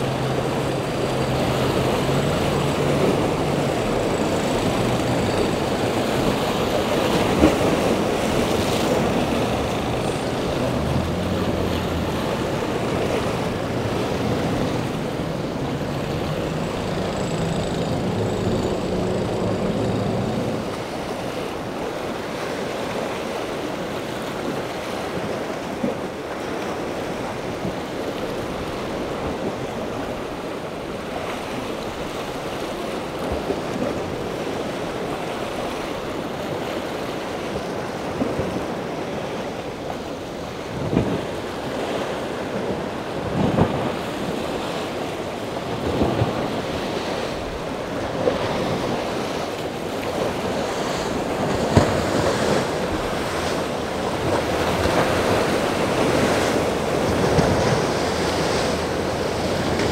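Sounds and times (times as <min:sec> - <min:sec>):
water rushing and splashing: 0:00.0 - 0:59.9.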